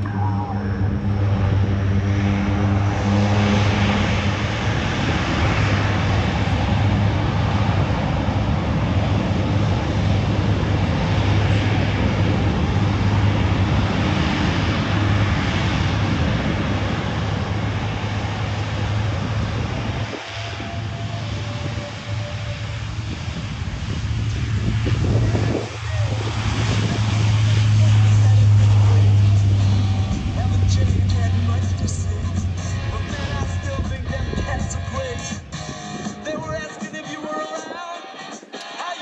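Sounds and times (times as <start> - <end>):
aircraft engines running: 0.0 - 39.0.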